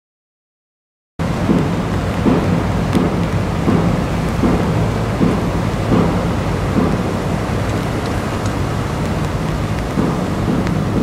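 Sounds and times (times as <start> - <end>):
steady low hum: 1.2 - 11.0
wind buffeting microphone: 1.2 - 11.0.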